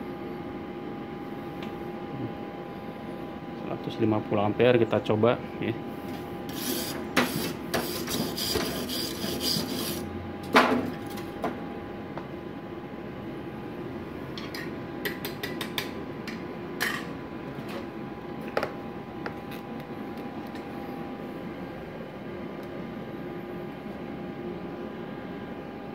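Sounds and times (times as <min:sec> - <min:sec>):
steady hum: 0:00.0 - 0:25.9.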